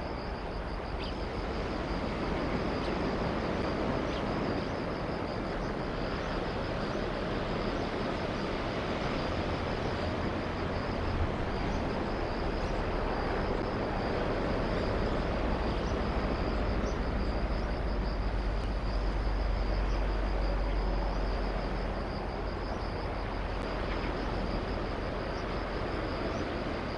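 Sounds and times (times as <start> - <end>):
insect calling in rapid pulses: 0.0 - 26.9.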